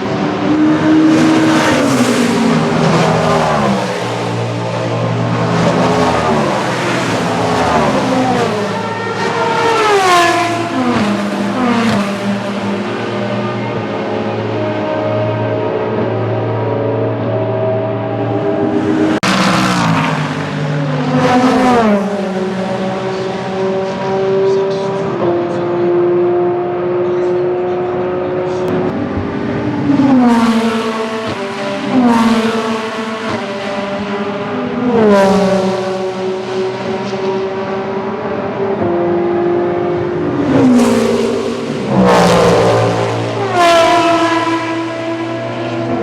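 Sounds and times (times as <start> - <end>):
race cars passing at high revs: 0.0 - 46.0.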